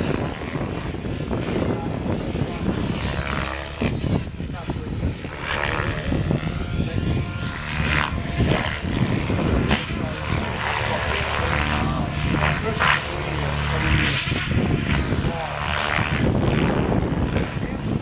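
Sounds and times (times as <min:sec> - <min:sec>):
model helicopter whine: 0:00.0 - 0:18.0
wind buffeting microphone: 0:00.0 - 0:18.0.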